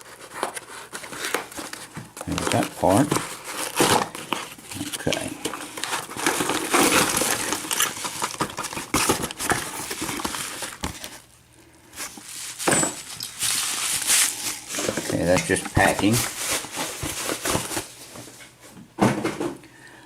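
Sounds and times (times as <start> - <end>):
packing material rustling: 0.0 - 18.4.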